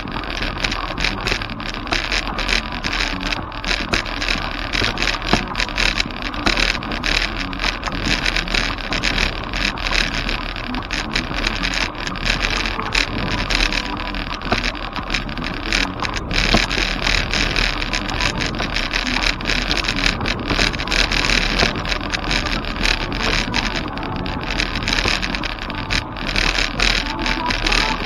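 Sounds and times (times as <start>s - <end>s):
bicycle tyres crunching on gravel: 0.0s - 28.0s.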